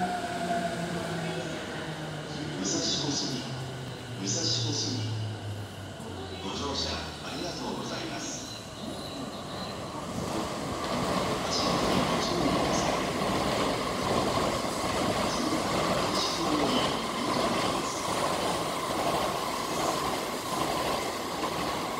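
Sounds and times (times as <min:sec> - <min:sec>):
high-speed train passing: 0:00.0 - 0:21.9.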